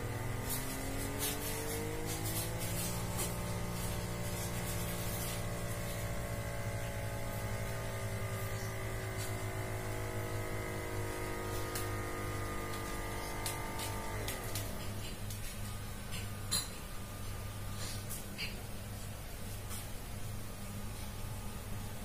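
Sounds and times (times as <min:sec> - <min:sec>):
pump motor whine: 0:00.0 - 0:18.1.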